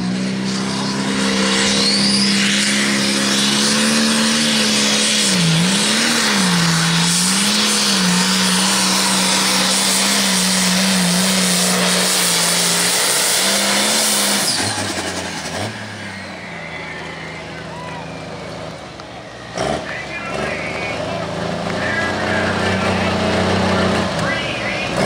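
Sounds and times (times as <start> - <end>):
turbocharged diesel tractor engine: 0.0 - 25.0.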